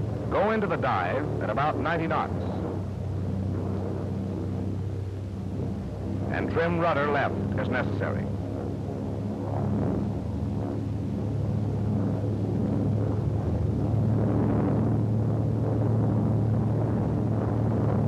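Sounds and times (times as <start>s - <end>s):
aircraft engine droning: 0.0s - 18.0s.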